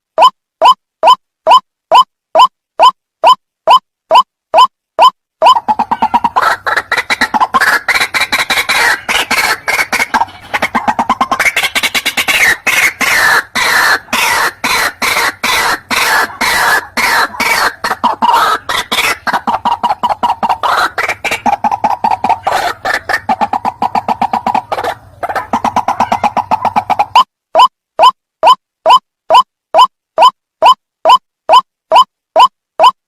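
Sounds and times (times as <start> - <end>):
waterhen clucking call: 0.2 - 33.0.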